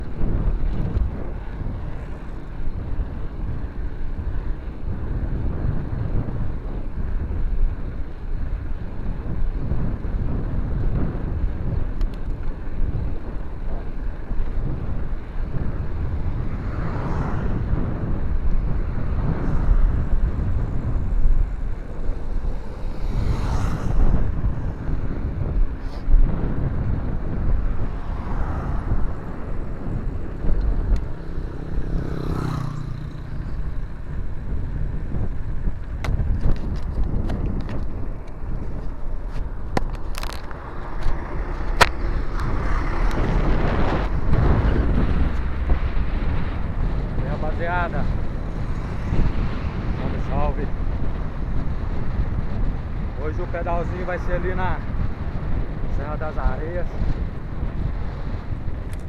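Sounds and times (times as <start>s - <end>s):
road noise: 0.0s - 59.0s
wind rumble: 0.0s - 59.0s.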